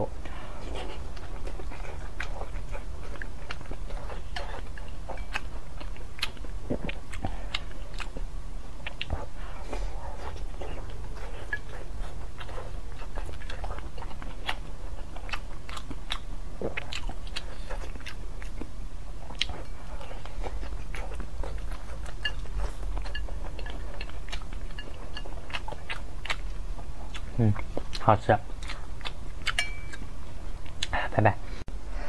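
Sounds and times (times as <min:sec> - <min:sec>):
person chewing buns: 0:00.0 - 0:31.1
steady low hum: 0:00.0 - 0:32.0.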